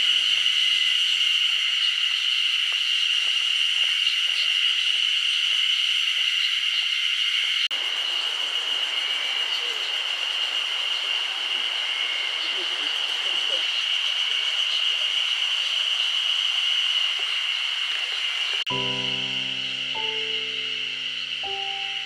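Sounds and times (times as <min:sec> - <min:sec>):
cicadas singing: 0:00.0 - 0:22.0.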